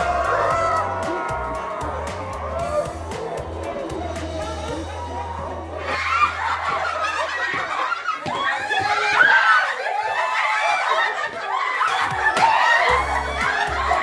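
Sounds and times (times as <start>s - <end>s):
group of people laughing: 2.6s - 14.0s.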